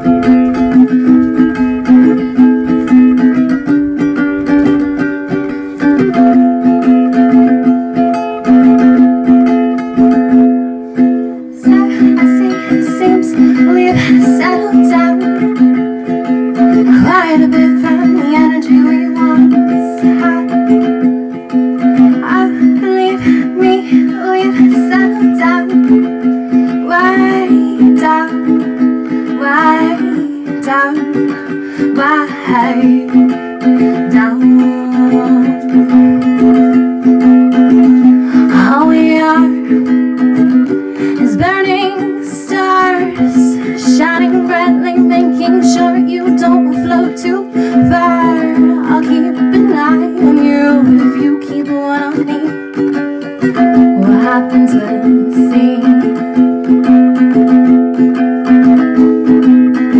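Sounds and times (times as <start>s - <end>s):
woman singing: 0.0s - 59.8s
strummed ukulele: 0.0s - 59.9s.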